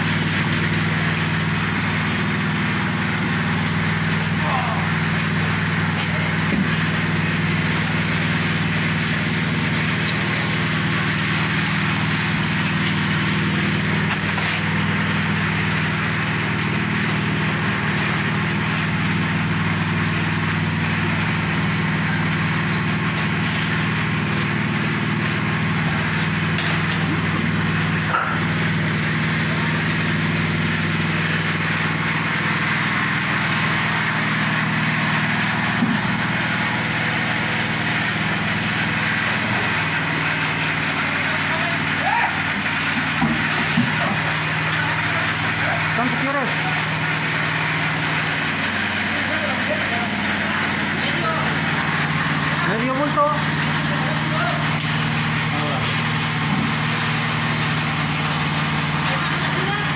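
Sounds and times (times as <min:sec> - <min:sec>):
concrete mixer petrol engine running: 0:00.0 - 0:59.9.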